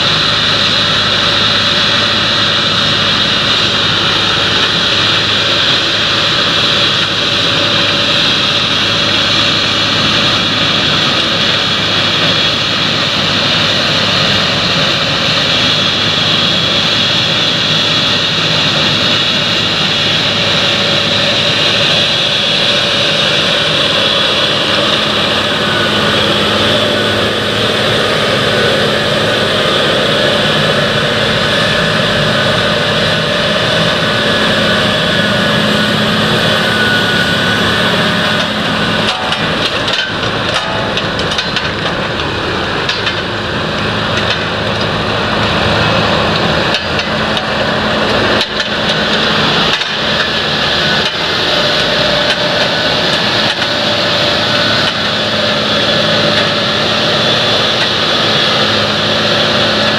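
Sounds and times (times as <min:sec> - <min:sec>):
steady high whine: 0:00.0 - 0:59.9
tractor engine under load: 0:00.0 - 0:59.9.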